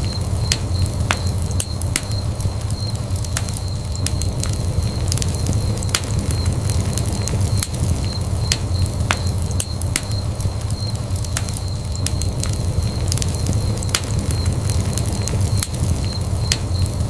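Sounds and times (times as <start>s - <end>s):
low rumble of burning: 0.0s - 17.0s
wood fire crackling and popping: 0.0s - 17.0s.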